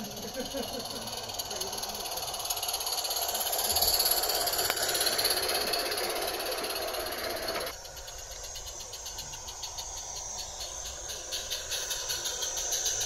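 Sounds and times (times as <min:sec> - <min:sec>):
steam hissing: 0:00.0 - 0:13.0
steam locomotive rapid beating: 0:00.0 - 0:13.0
wheels rattling on track: 0:00.0 - 0:13.0.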